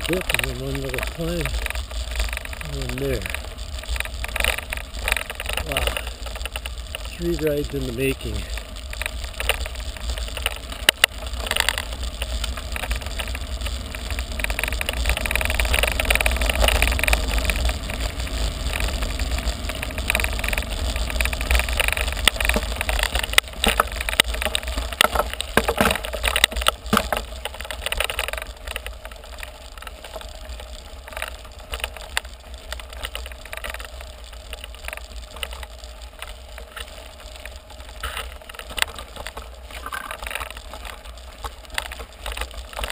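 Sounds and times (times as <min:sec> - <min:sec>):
bike rattles and knocks: 0:00.0 - 0:42.9
bike tyres crunching on gravel: 0:00.0 - 0:42.9.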